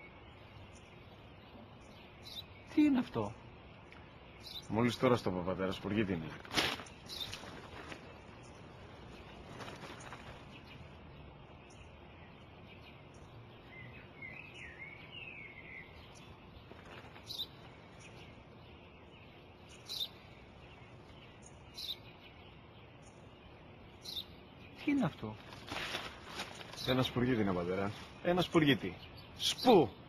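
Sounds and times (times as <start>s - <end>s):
sparrow chirping: 0.0s - 30.0s.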